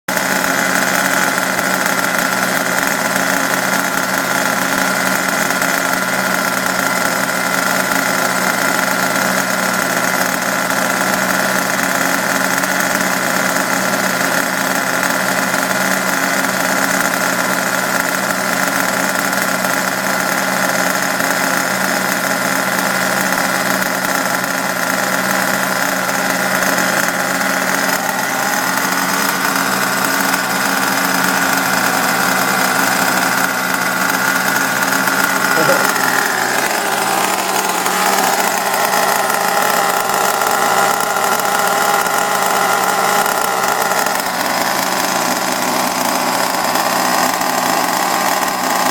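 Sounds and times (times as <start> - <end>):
nitro engine idling: 0.0 - 48.9
small nitro engine idling: 0.0 - 48.9.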